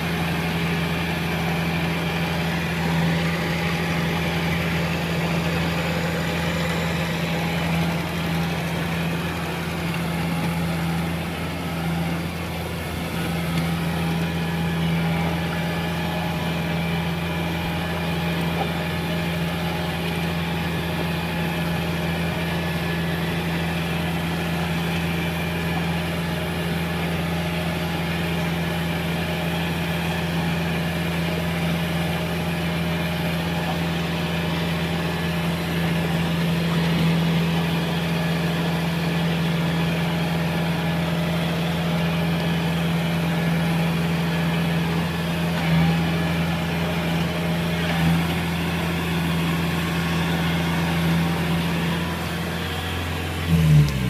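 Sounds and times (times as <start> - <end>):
diesel engine running steadily: 0.0 - 54.0.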